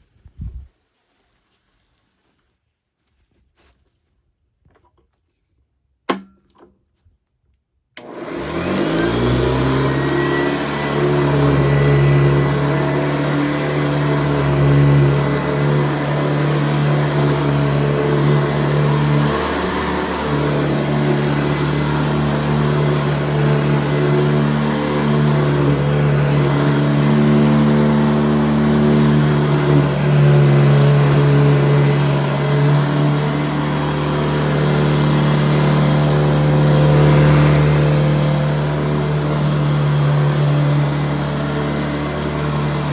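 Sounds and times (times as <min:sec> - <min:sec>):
vacuum cleaner motor humming: 0:08.0 - 0:42.9.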